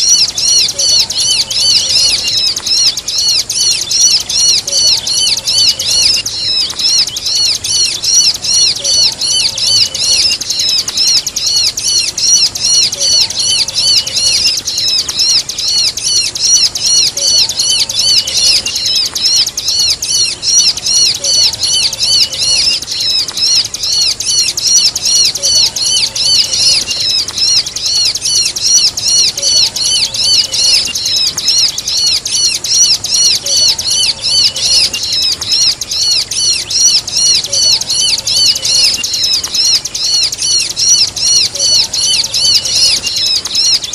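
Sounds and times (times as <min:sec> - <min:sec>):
bird calling in shrill chirps: 0:00.0 - 0:43.9.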